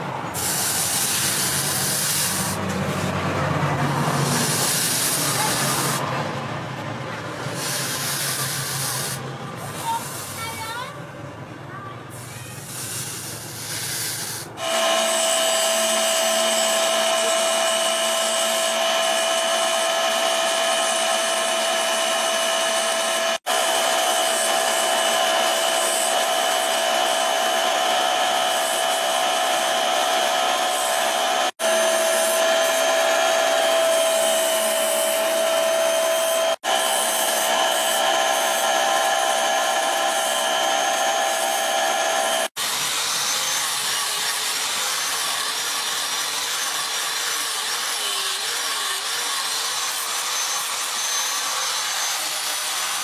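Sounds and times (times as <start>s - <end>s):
electric grinder whining: 0.0s - 6.1s, 7.4s - 10.4s, 12.6s - 53.0s
steel grinding against disc: 0.3s - 3.2s, 3.8s - 6.0s, 7.3s - 10.8s, 12.3s - 53.0s.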